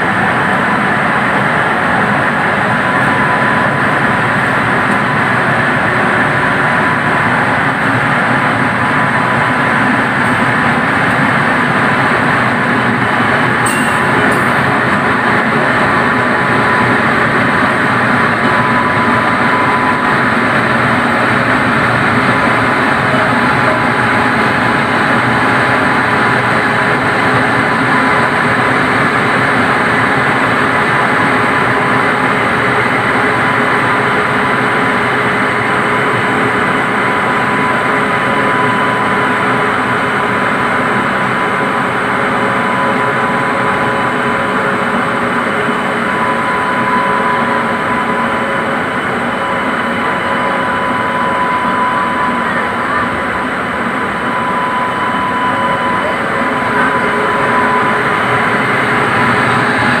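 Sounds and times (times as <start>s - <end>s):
passing electric locomotive: 0.0s - 60.0s
train wheels rushing on rails: 0.0s - 60.0s.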